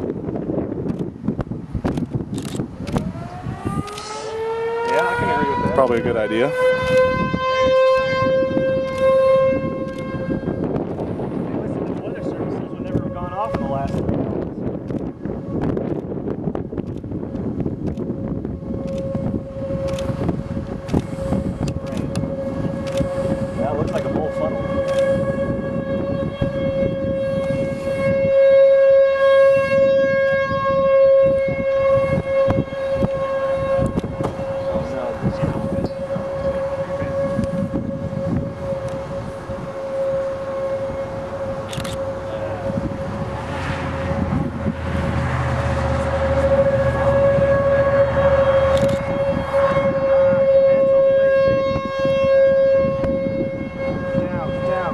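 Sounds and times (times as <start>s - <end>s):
wind rumble: 0.0s - 54.9s
warning siren wailing: 1.9s - 54.9s
low rushing background: 8.2s - 52.2s.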